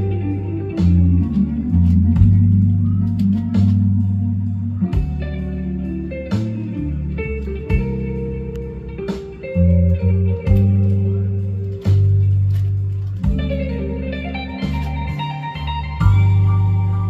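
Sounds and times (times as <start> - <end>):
bass line: 0.0 - 17.0
guitar music: 0.0 - 17.0.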